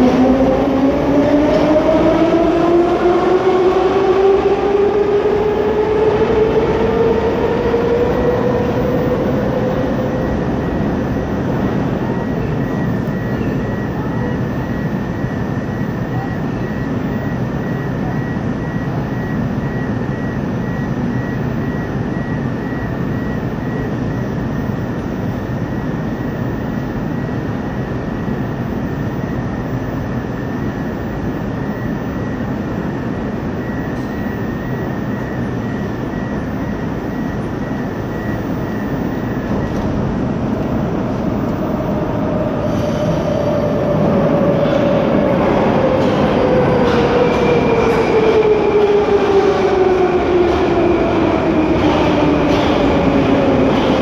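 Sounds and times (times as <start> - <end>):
rising whine: 0.0 - 53.9
metro train hum and rush: 0.0 - 54.0
faint pulsing high tone: 4.3 - 47.9.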